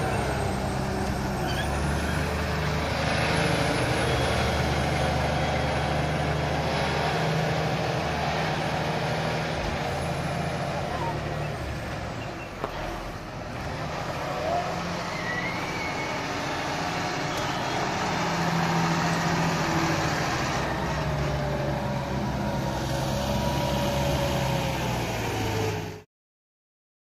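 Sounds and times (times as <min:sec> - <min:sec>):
tractor diesel engine under load: 0:00.0 - 0:26.1.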